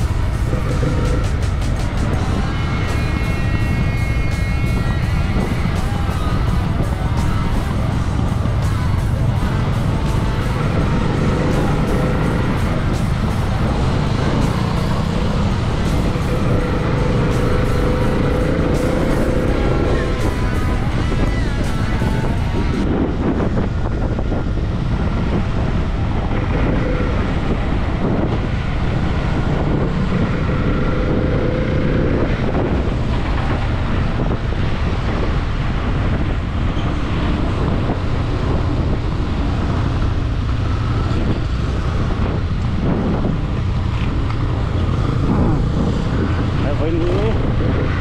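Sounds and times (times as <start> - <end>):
motorcycle engine: 0.0 - 48.0
road noise: 0.0 - 48.0
wind buffeting microphone: 0.0 - 48.0.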